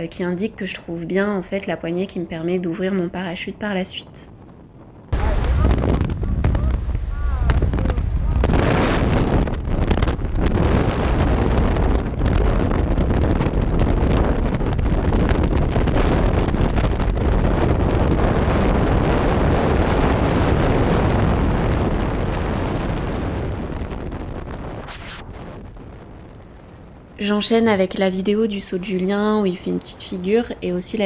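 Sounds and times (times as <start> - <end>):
wind roaring on microphone: 0.0 - 31.0.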